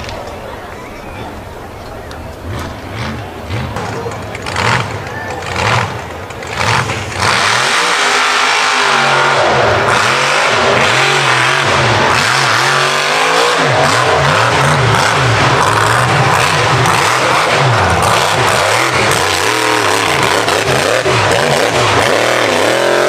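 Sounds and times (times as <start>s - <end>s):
truck engine revving hard: 2.3s - 23.0s.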